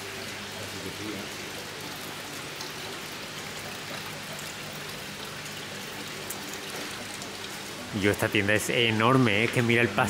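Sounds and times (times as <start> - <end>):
water splashing in aquarium: 0.0 - 10.0.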